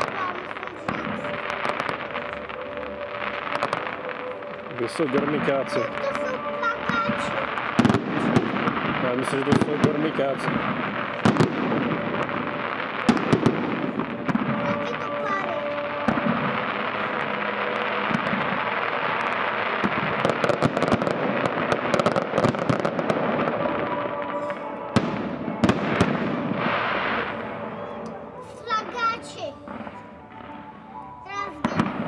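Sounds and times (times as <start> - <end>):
fireworks crackling and popping: 0.0 - 32.0
fireworks sharp bangs: 0.0 - 32.0.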